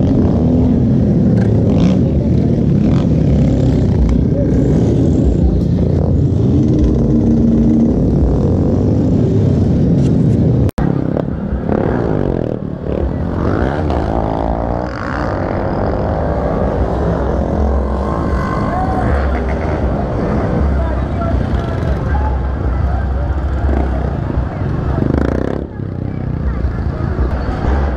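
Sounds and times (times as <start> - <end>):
motorcycle engines revving: 0.0 - 27.9.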